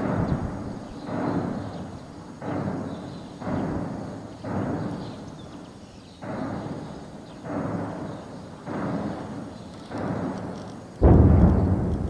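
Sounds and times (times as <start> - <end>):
deep weapon booms echoing: 0.0 - 5.6, 6.2 - 12.0.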